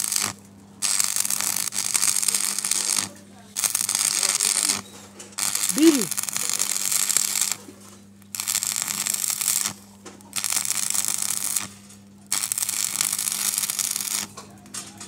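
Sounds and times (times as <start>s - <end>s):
welding arc crackling and sizzling: 0.0s - 14.4s.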